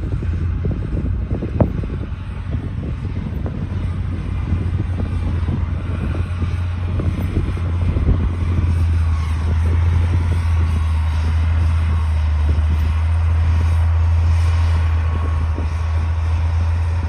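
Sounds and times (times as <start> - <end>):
bulldozer diesel engine: 0.0 - 17.0.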